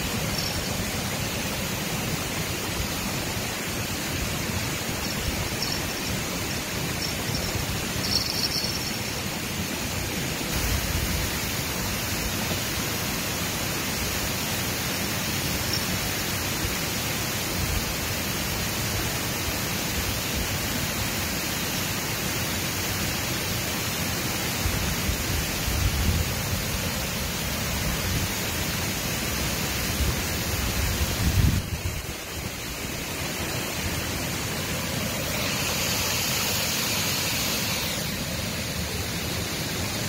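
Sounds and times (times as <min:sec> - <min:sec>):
water rushing over weir: 0:00.0 - 0:40.0.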